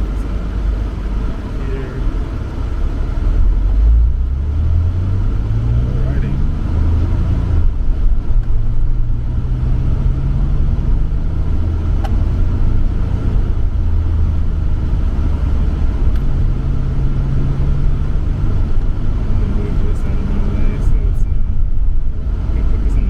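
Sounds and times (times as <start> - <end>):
car engine driving: 0.0 - 23.0
road noise: 0.0 - 23.0.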